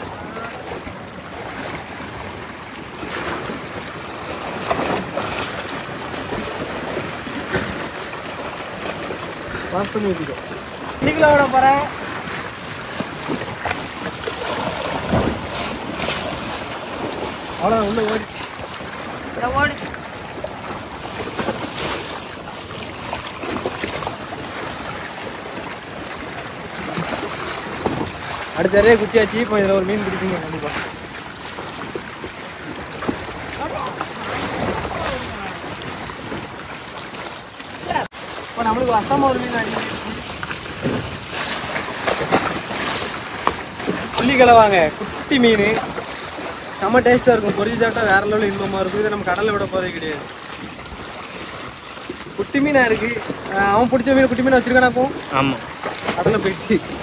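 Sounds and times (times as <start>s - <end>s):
waves splashing against rocks: 0.0s - 57.0s.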